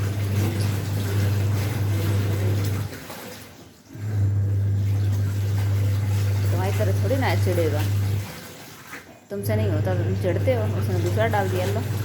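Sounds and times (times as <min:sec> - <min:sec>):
washing machine motor hum: 0:00.0 - 0:12.0
water churning: 0:00.0 - 0:12.0.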